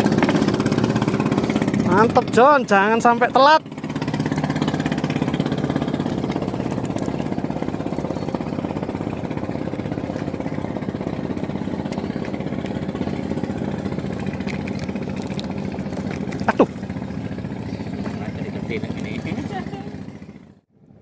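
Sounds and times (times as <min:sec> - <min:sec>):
boat engine pulsing: 0:00.0 - 0:20.9.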